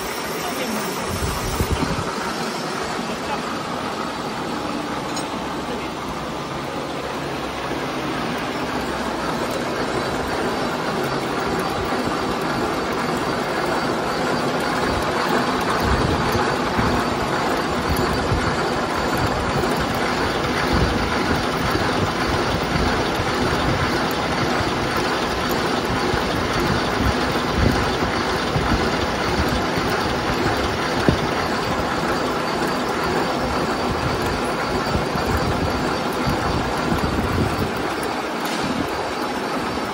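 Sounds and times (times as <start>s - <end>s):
boring machine machining metal: 0.0s - 39.9s.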